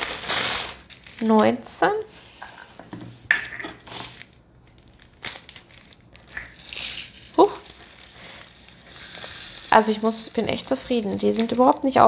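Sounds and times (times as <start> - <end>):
plastic bags crinkling: 0.0 - 2.0, 3.8 - 12.0.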